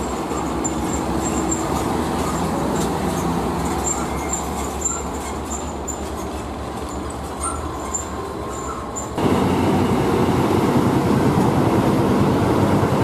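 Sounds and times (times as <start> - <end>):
road traffic noise: 0.0 - 13.0
truck diesel engine passing: 0.0 - 13.0.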